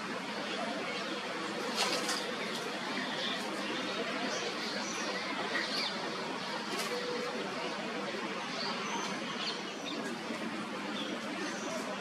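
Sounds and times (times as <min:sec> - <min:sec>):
wind rustling through tree: 0:00.0 - 0:12.0.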